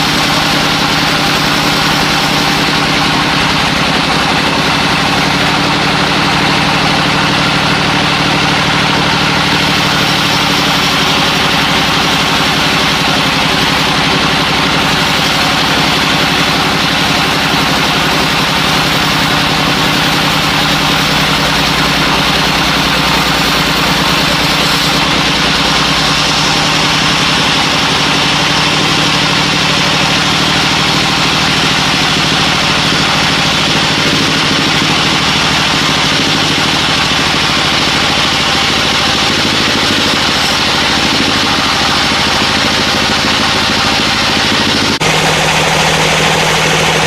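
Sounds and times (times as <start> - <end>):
sawmill engine running: 0.0 - 47.0.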